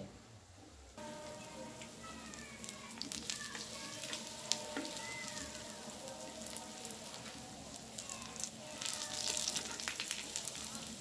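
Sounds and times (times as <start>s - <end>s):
food sizzling in oil: 1.0s - 11.0s.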